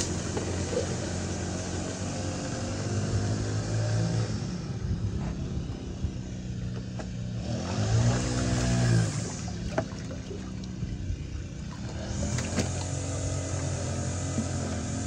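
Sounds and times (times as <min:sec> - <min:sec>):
motor engine running: 0:00.0 - 0:15.0.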